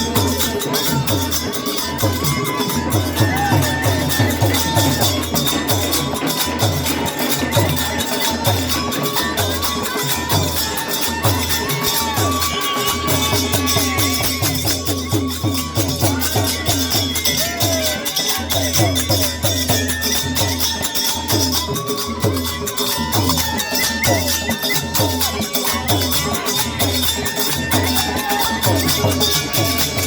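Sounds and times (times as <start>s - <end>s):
bamboo flute melody: 0.0s - 30.0s.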